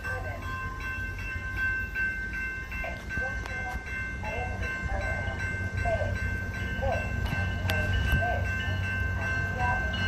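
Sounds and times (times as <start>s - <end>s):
train engine rumble and whine: 0.0s - 10.0s.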